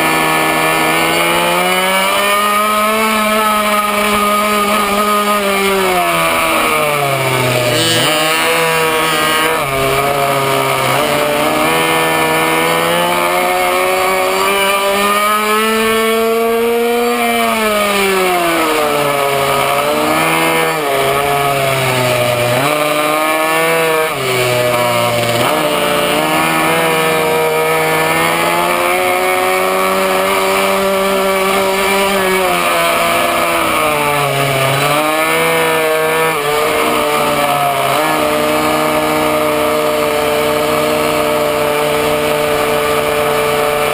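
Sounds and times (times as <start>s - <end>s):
small two-stroke engine racing: 0.0s - 43.9s.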